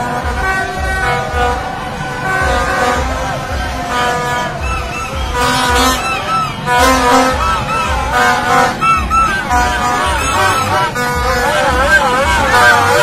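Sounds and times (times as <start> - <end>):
plastic trumpet horns tooting: 0.0 - 13.0
steady low beat: 0.0 - 13.0.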